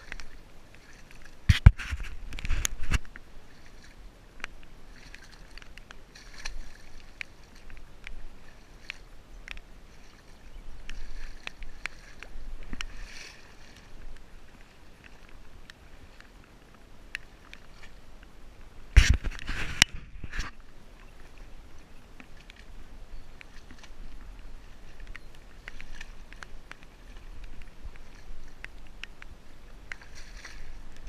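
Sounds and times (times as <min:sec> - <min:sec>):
water sloshing and splashing: 0:00.0 - 0:31.0.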